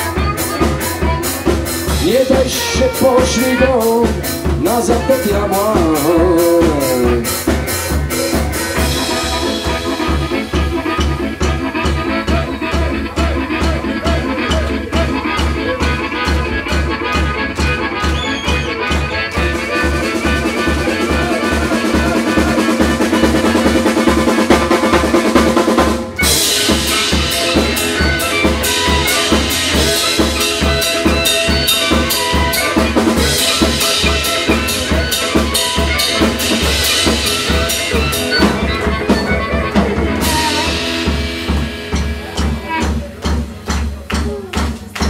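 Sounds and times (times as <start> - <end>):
harmonica long held notes: 0.0 - 42.0
drum kit bass-drum beat: 0.0 - 45.0.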